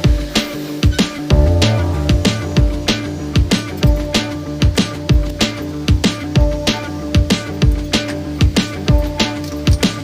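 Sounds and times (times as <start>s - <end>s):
background music with drum beat: 1.3s - 10.0s.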